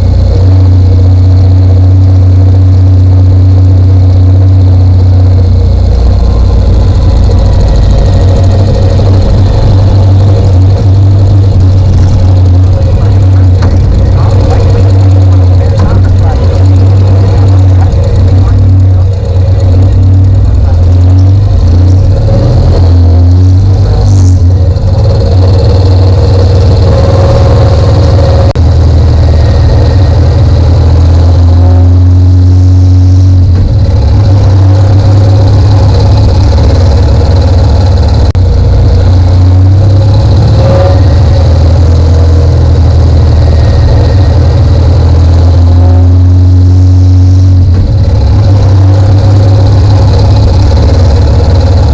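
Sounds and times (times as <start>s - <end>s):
motorcycle engine rumbling: 0.0s - 51.9s.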